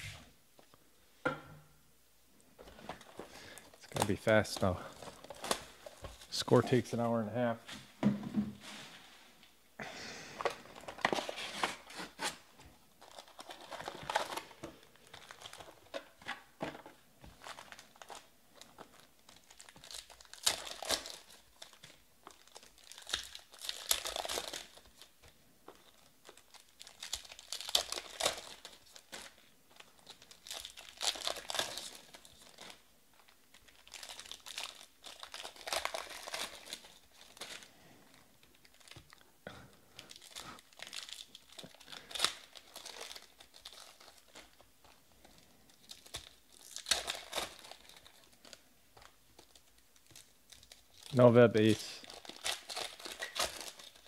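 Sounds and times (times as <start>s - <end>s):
foil wrappers tearing and crinkling: 2.9s - 6.6s, 10.8s - 16.2s, 17.3s - 54.0s.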